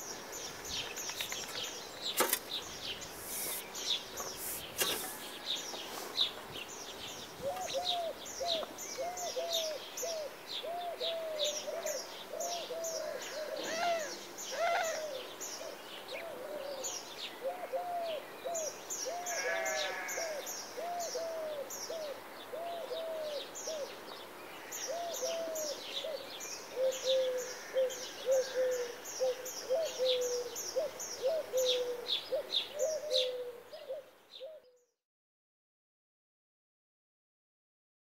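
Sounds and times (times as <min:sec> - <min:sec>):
low repeated bird call: 0:00.0 - 0:24.0, 0:24.6 - 0:35.0
birds chirping: 0:00.0 - 0:34.8.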